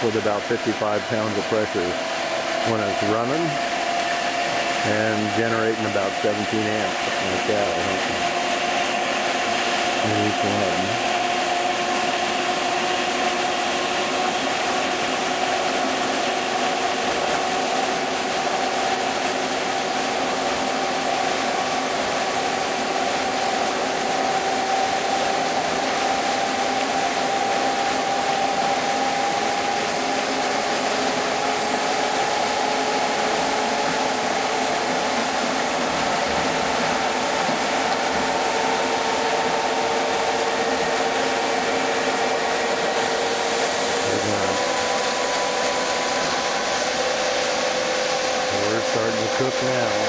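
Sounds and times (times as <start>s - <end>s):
turbine humming whine: 0.0s - 50.0s.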